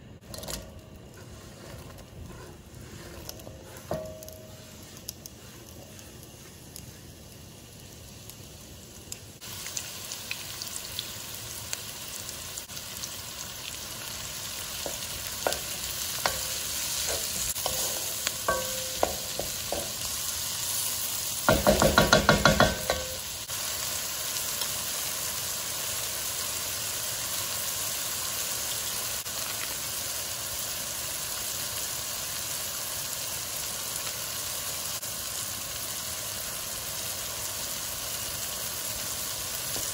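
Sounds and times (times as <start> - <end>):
onions sizzling in a pan: 0.0 - 39.9.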